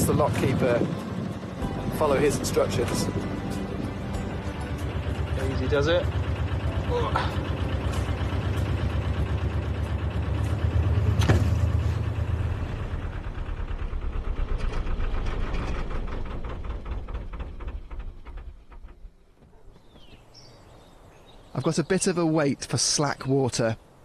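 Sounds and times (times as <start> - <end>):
boat engine thudding: 0.0 - 20.3.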